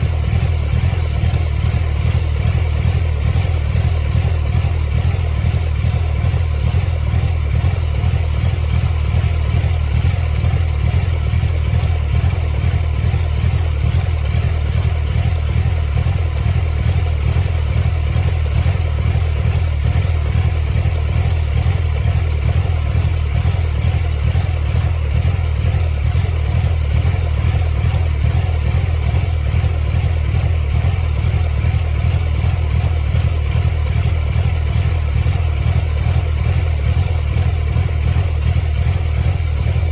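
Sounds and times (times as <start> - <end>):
car engine running unevenly: 0.0 - 39.9.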